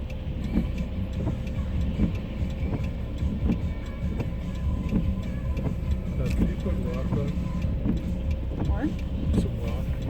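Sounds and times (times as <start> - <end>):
light ticks: 0.0 - 10.0
road and tyre rumble: 0.0 - 10.0.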